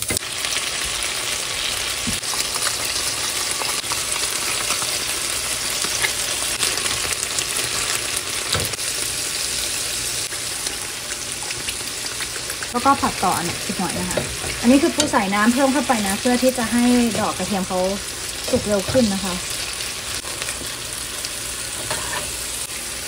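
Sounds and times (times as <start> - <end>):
vegetables sizzling in butter: 0.0 - 23.0.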